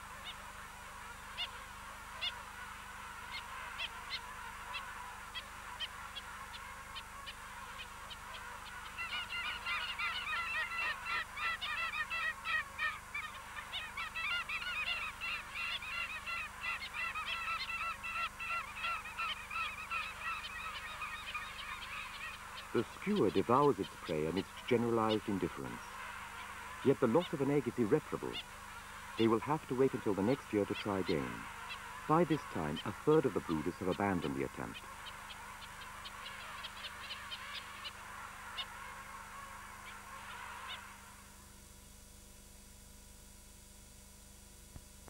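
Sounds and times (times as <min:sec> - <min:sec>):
penguin colony calling: 0:00.0 - 0:41.3.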